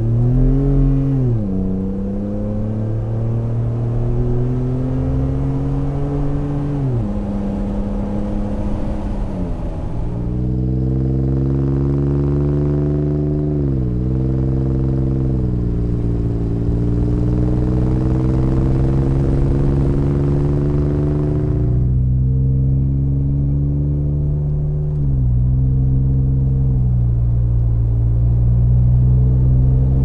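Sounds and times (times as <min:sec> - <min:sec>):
truck exhaust accelerating hard: 0:00.0 - 0:30.0.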